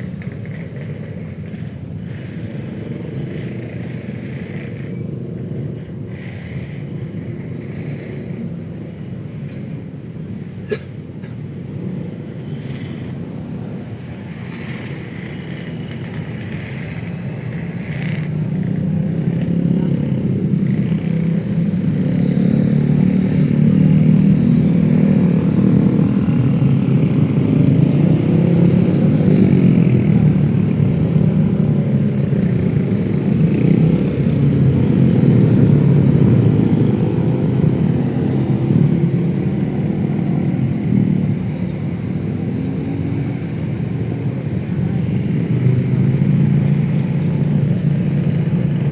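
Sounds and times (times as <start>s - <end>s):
motorcycles and cars passing: 0.0s - 48.9s.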